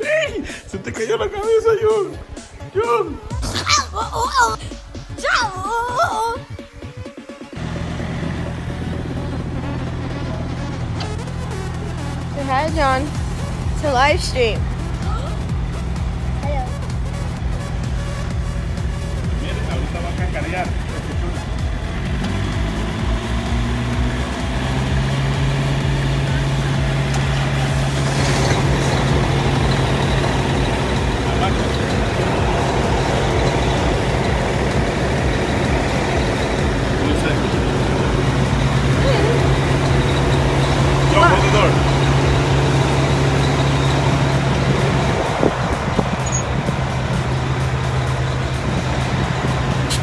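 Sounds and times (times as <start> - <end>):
diesel truck engine idling: 5.7 - 50.0.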